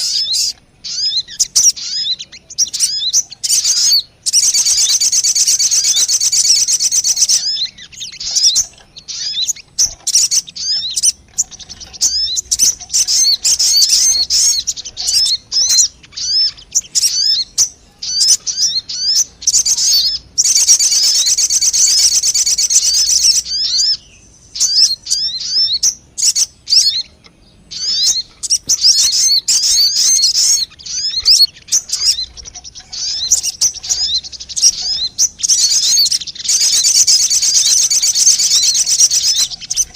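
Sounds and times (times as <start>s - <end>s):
bird lure call trills and chirps: 0.0s - 39.9s.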